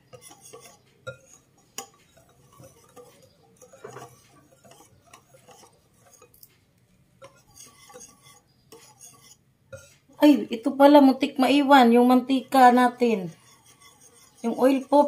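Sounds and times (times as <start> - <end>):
whisk clinking against bowl: 0.0 - 6.5, 7.2 - 10.1, 12.0 - 15.0.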